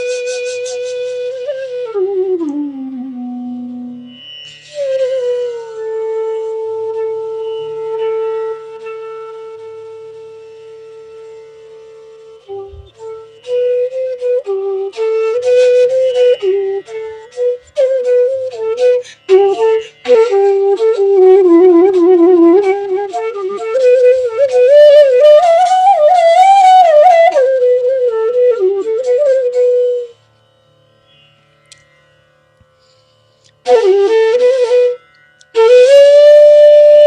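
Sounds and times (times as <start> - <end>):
bamboo flute melody: 0.0 - 30.7, 32.8 - 37.0.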